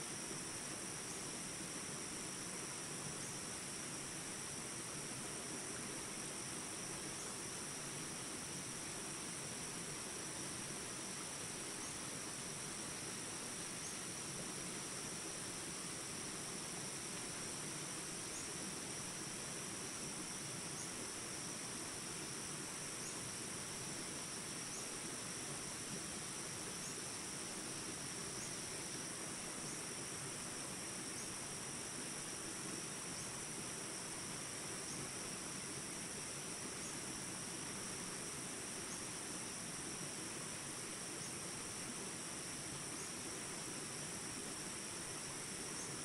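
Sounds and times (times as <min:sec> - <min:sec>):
crickets trilling: 0:00.0 - 0:46.0.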